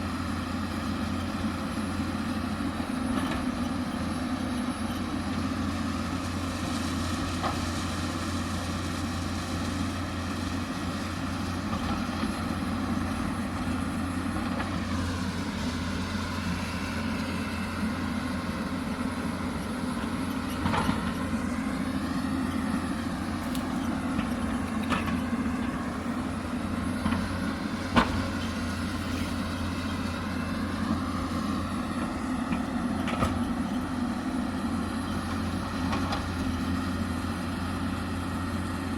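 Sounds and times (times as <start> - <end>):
excavator diesel engine under load: 0.0 - 38.9.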